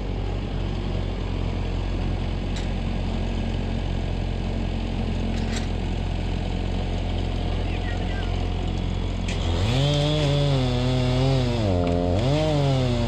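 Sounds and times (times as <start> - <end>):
engine idling: 0.0 - 12.5.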